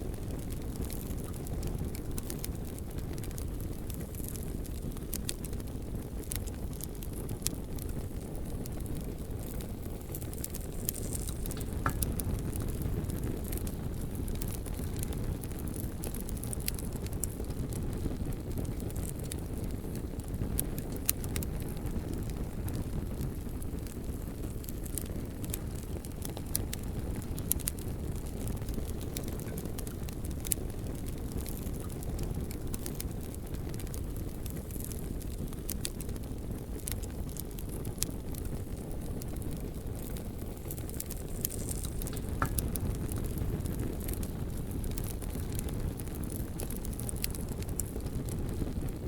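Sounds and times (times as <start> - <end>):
fire crackling and popping: 0.0 - 49.0
low roar of flame: 0.0 - 49.0.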